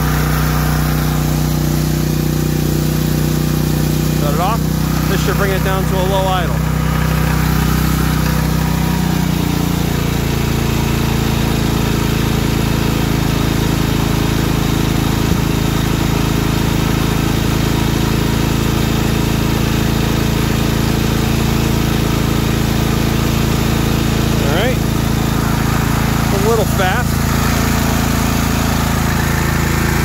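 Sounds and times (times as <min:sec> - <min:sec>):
generator engine running: 0:00.0 - 0:30.0.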